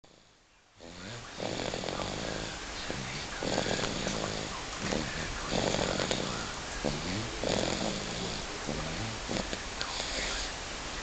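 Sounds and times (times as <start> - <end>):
baby snoring: 0.1 - 10.6.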